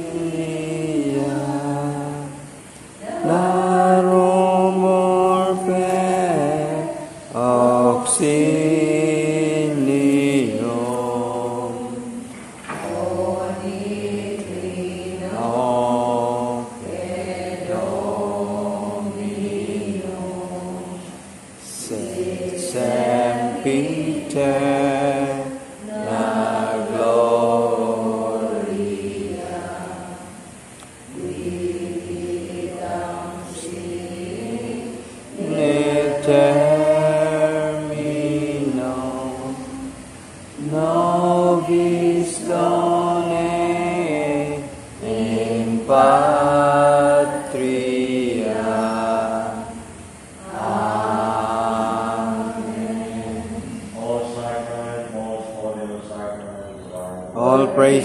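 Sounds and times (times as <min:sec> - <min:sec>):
chant-like hymn singing: 0:00.0 - 0:58.0.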